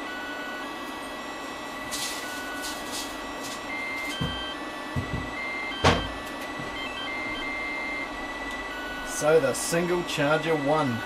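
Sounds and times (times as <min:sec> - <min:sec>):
charger cooling fans running: 0:00.0 - 0:11.0.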